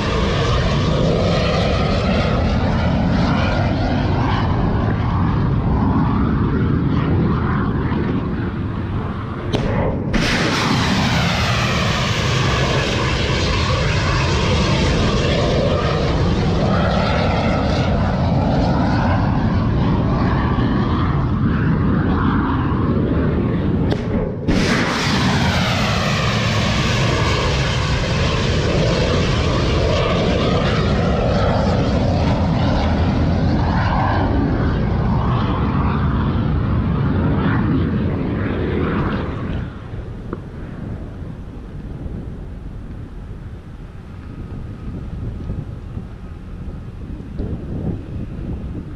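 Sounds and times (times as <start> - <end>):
aircraft engine roar overhead: 0.0 - 48.9.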